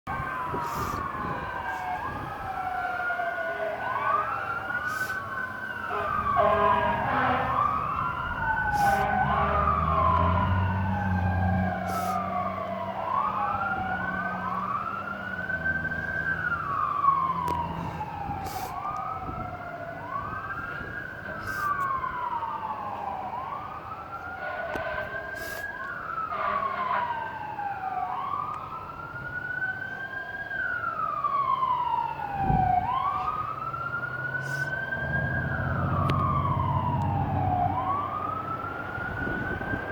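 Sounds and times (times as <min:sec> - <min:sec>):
fire truck sirens wailing: 0:00.1 - 0:39.9
heavy truck engines rumbling: 0:00.1 - 0:39.9.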